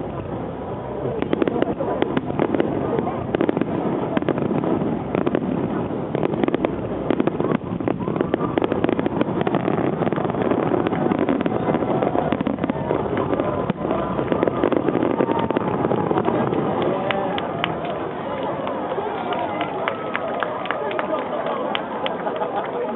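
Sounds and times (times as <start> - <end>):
crowd voices: 0.0 - 22.9
fireworks crackling and popping: 0.0 - 22.9.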